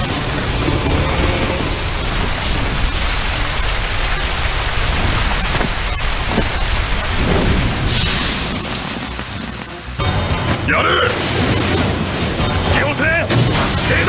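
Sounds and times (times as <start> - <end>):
deep rumbling rush of fire: 0.0 - 14.0
fire crackles: 0.0 - 14.0
heavy rain: 0.0 - 14.0.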